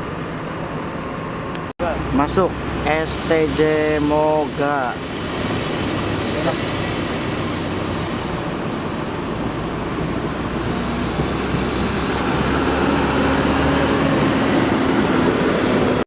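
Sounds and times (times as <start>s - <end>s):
diesel bus engine running: 0.0s - 16.0s.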